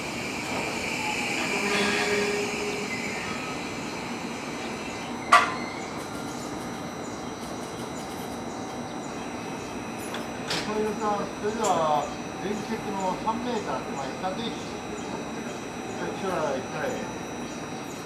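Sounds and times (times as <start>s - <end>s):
electric train creeping: 0.0s - 18.0s
faint whine and squeal: 0.0s - 18.0s.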